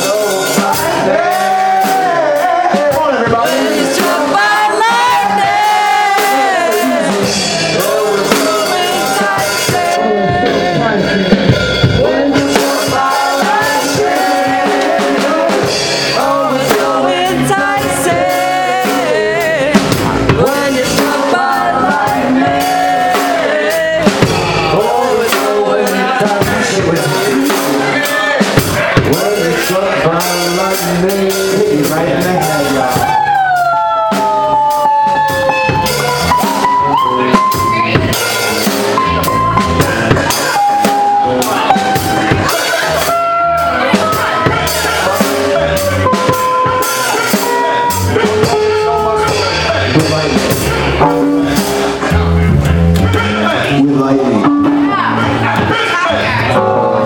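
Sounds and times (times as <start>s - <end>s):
drum kit: 0.0s - 57.0s
electric guitar: 0.0s - 57.0s
person singing: 0.0s - 57.0s.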